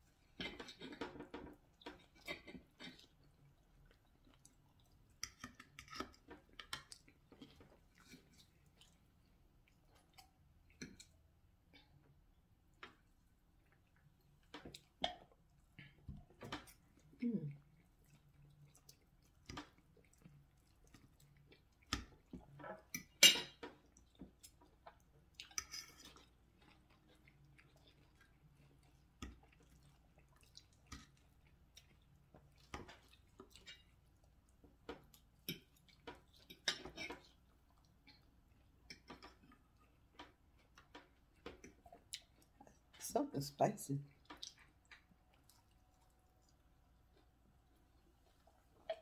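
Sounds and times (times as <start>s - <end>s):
chewing: 0.1s - 11.2s, 12.8s - 43.0s, 44.1s - 49.0s.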